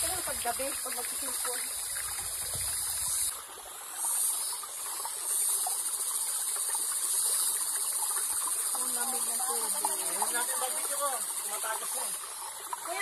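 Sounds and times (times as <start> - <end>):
high insect buzz: 0.0 - 13.0
stream running over rocks: 0.0 - 13.0.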